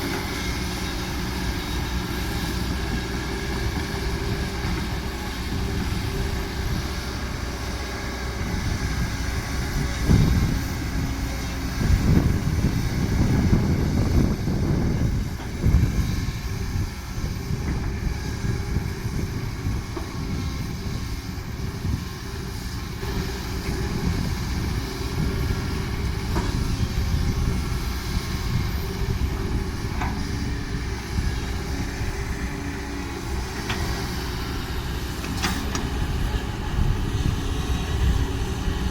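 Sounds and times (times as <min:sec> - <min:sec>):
heavy diesel engine rumbling: 0:00.0 - 0:38.9.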